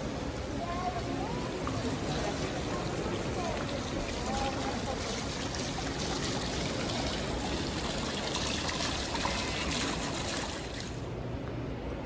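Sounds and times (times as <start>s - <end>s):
fountain water trickling and splashing: 0.0s - 11.1s.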